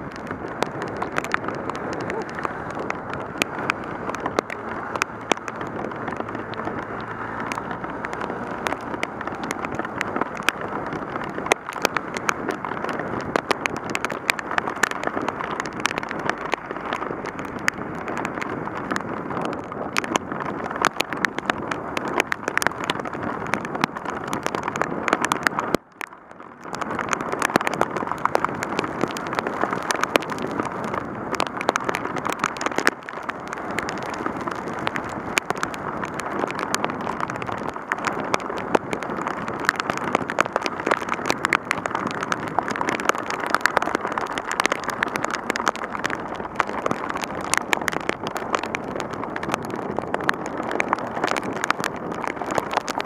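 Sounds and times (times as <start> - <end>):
heavy rain downpour: 0.0 - 53.0
raindrops hitting camera housing: 0.0 - 53.0
wet road noise: 0.0 - 53.0.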